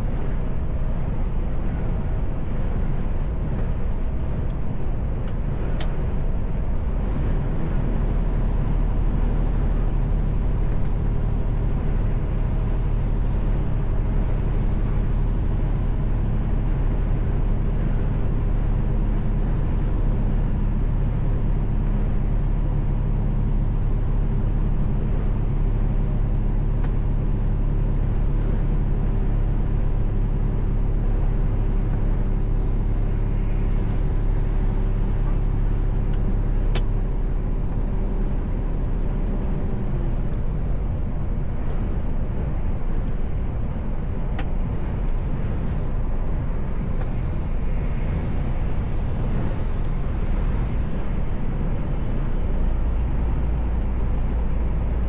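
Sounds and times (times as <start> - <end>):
truck engine drone: 0.0 - 55.0
tyre and road rumble: 0.0 - 55.0.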